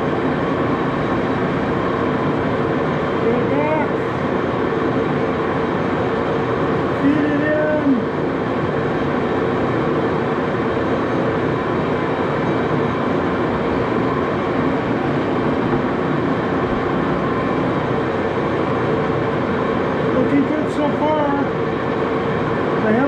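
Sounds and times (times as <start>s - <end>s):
lathe running with gears engaged: 0.0s - 23.0s.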